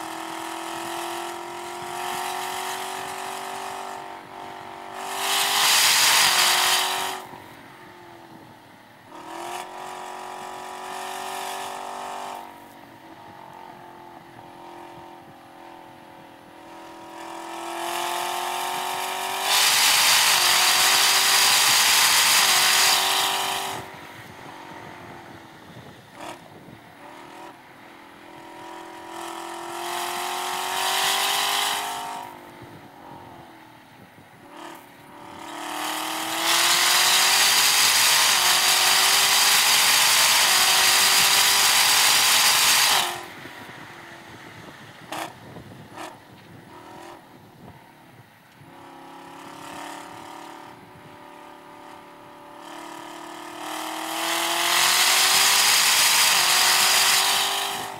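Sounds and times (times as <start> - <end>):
car engine revving: 0.0 - 47.7, 48.5 - 57.9.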